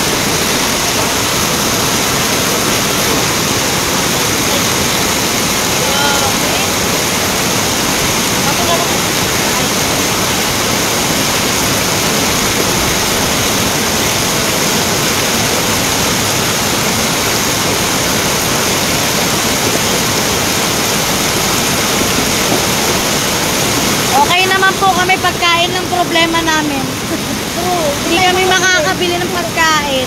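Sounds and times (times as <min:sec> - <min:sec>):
floodwater rushing down street: 0:00.0 - 0:30.0
heavy rain falling: 0:00.0 - 0:30.0.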